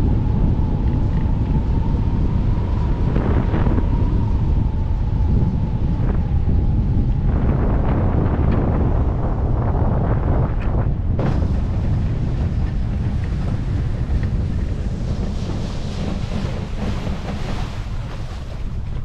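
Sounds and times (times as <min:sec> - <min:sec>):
water rushing against hull: 0:00.0 - 0:19.0
wind buffeting microphone: 0:00.0 - 0:19.0.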